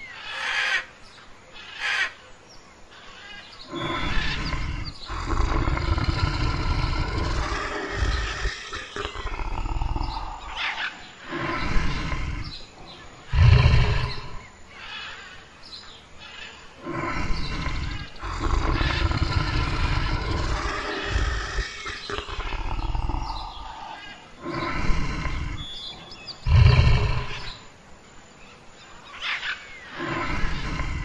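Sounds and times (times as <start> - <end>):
bears growling and roaring: 3.6 - 15.4, 16.4 - 27.8, 29.3 - 31.0.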